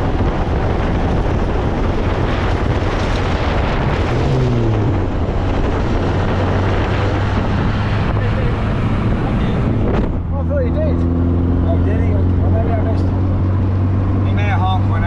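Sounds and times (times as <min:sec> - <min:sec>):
car engine drone: 0:00.0 - 0:15.0
road and wind noise: 0:00.0 - 0:15.0.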